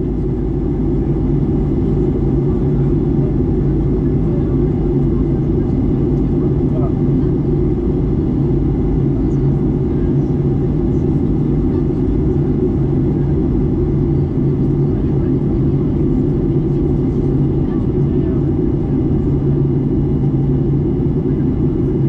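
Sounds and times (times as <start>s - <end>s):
airplane cabin engine rumble: 0.0s - 22.0s
constant low hum: 0.0s - 22.0s.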